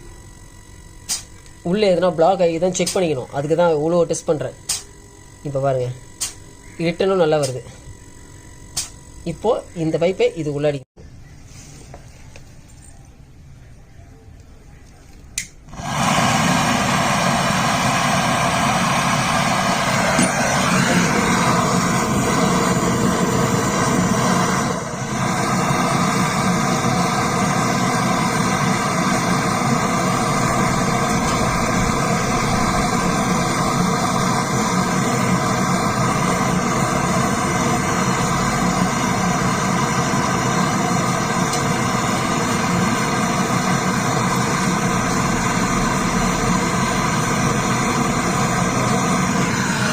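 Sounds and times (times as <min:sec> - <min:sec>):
electric pump running: 0:00.0 - 0:10.8, 0:15.6 - 0:49.9.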